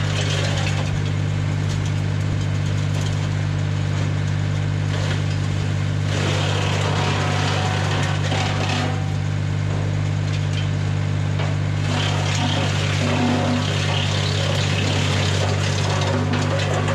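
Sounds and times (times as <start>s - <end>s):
tractor engine running: 0.0s - 16.9s
wood chipper rushing noise: 0.0s - 16.9s.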